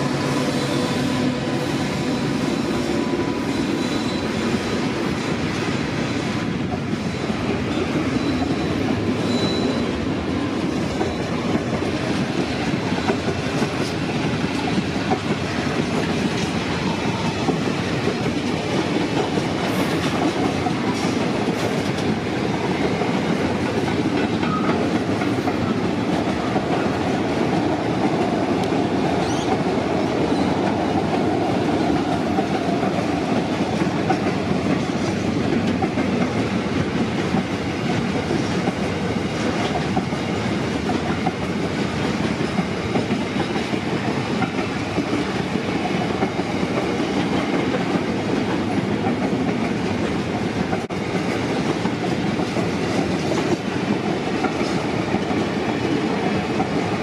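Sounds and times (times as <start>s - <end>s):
train wheels rolling and clattering: 0.0s - 57.0s.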